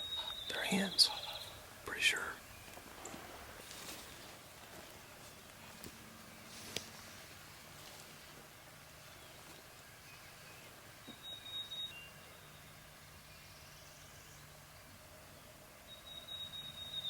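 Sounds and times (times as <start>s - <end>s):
faint outdoor ambience: 0.0s - 17.0s
songbird singing: 0.0s - 17.0s.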